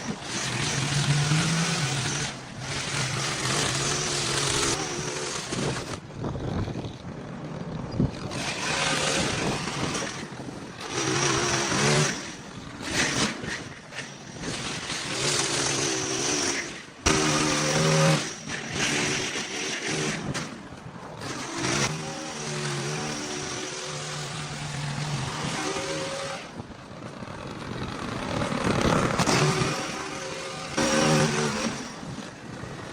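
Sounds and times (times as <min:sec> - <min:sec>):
small gas engine revving: 0:00.0 - 0:32.9.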